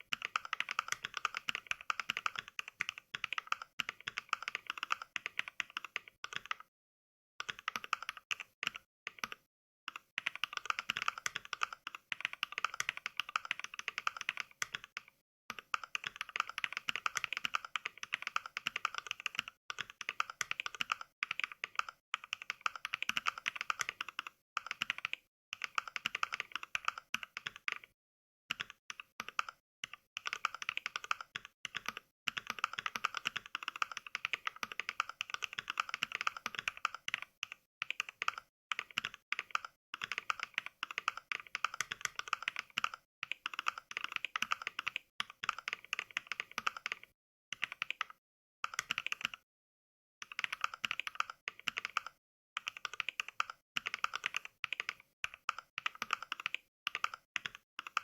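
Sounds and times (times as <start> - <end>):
mechanical keyboard typing: 0.0 - 6.7, 7.4 - 27.9, 28.5 - 49.4, 50.2 - 58.0.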